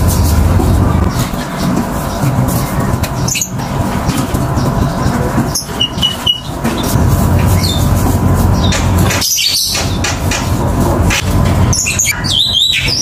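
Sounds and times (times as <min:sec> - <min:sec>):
small birds chirping: 0:00.2 - 0:10.2, 0:11.5 - 0:13.0.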